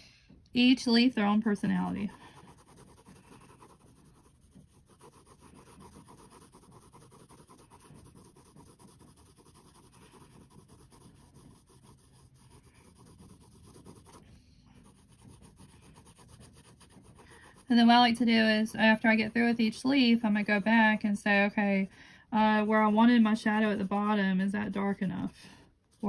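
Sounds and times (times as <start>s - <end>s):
pencil scratching on paper: 1.2s - 26.0s.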